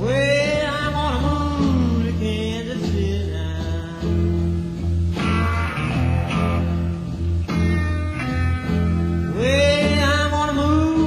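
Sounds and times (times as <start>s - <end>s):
psychedelic rock band playing: 0.0s - 11.0s.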